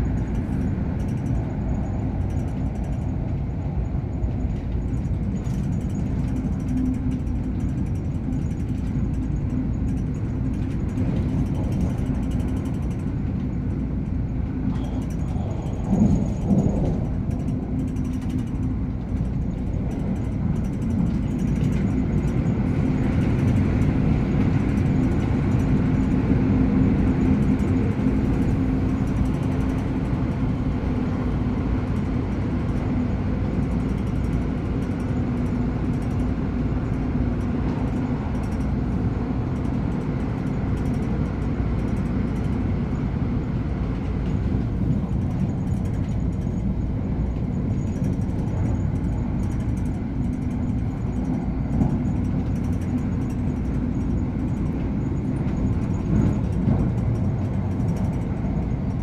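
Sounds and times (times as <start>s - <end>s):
steady low hum: 0.0s - 59.0s
train wheel and track noise: 0.0s - 59.0s.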